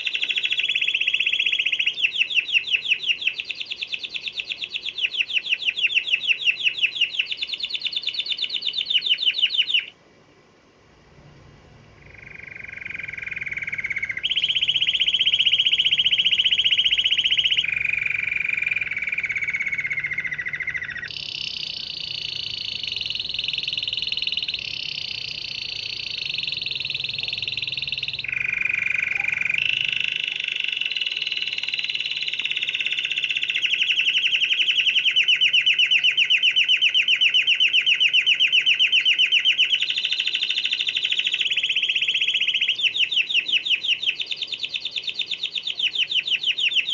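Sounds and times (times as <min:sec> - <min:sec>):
canary singing trills: 0:00.0 - 0:09.9, 0:11.1 - 0:46.9.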